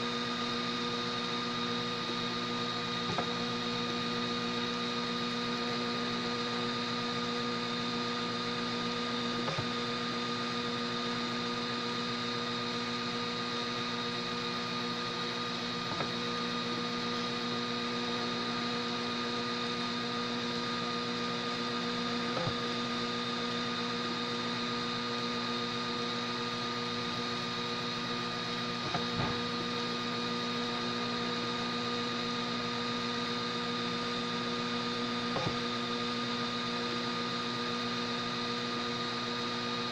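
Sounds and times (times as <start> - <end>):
three d printer humming: 0.0 - 39.9.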